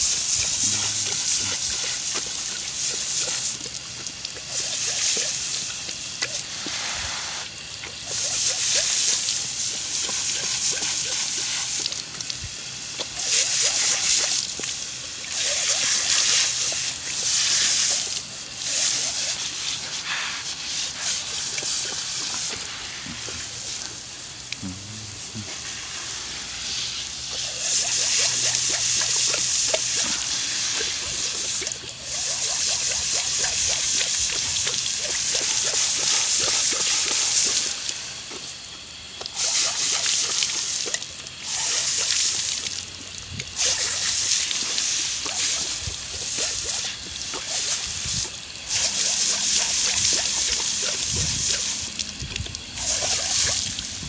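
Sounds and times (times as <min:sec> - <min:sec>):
water splattering: 0:00.0 - 0:24.6, 0:25.2 - 0:54.0
hose nozzle spray hissing: 0:00.0 - 0:38.6, 0:39.2 - 0:42.7, 0:43.4 - 0:54.0
dog lapping and gulping water: 0:00.0 - 0:54.0.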